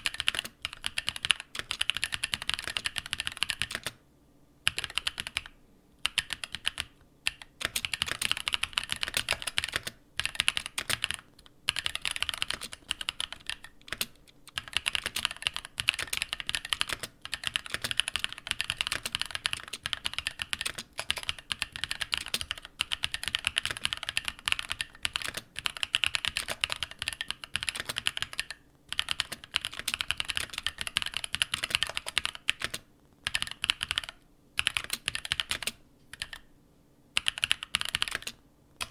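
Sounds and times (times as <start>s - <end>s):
fast mechanical keyboard typing: 0.0s - 4.0s, 4.7s - 36.5s, 37.2s - 38.9s.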